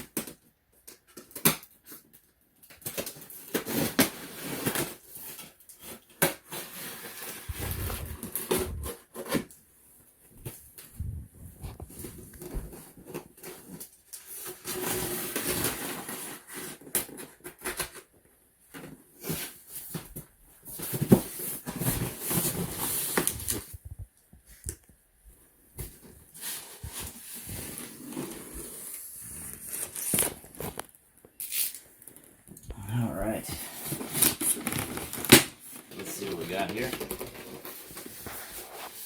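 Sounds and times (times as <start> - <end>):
cardboard rustling and scraping: 3.0 - 31.0, 33.2 - 39.0.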